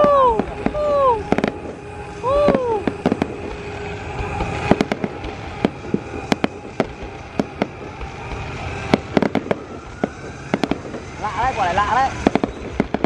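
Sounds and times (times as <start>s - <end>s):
firework shells bursting: 0.0s - 13.0s.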